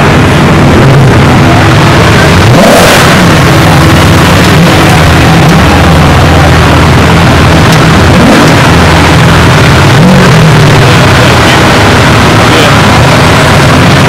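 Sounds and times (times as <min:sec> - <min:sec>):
supercar engines revving: 0:00.0 - 0:14.0.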